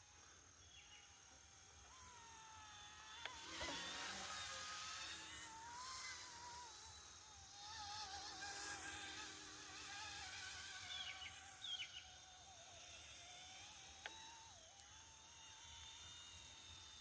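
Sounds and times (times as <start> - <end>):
electric helicopter motor whining: 0.0 - 17.0.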